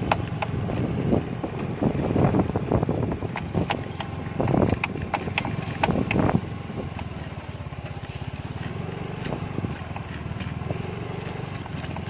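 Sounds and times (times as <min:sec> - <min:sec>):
small motorcycle engine puttering: 0:00.0 - 0:12.0.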